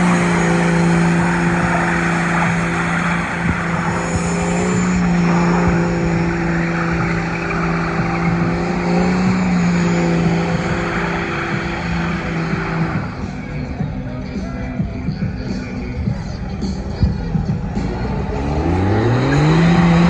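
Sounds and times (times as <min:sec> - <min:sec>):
truck engine revving high: 0:00.0 - 0:20.0.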